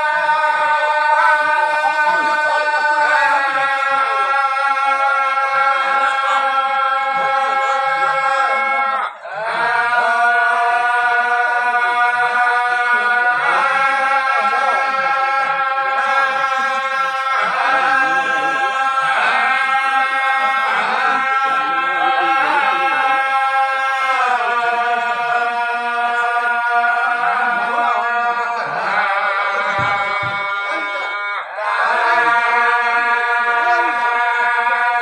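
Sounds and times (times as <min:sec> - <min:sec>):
men singing chant together: 0:00.0 - 0:35.0.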